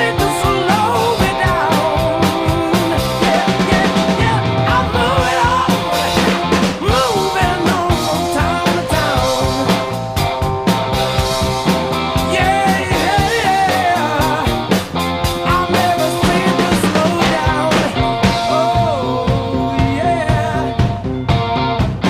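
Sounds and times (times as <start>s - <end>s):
rock music with sung vocal: 0.0s - 22.0s.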